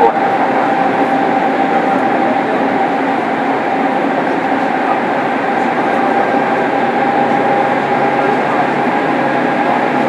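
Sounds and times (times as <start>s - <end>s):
thin steady motor whine: 0.0s - 10.0s
train running rumble: 0.0s - 10.0s.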